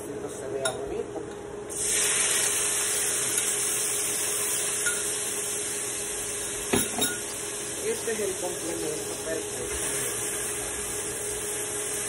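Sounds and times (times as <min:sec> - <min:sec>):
vegetables sizzling in hot oil: 0:01.7 - 0:12.0.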